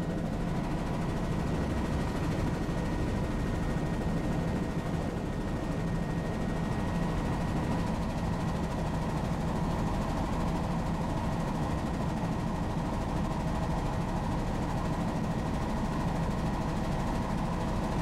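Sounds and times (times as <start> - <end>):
helicopter rotor and engine drone: 0.0 - 18.0.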